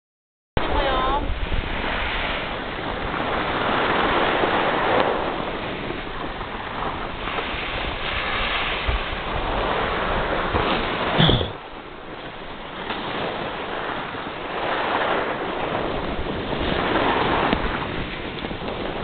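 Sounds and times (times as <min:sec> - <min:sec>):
wind noise on microphone: 0:00.6 - 0:19.0
skis sliding on snow: 0:00.7 - 0:19.0.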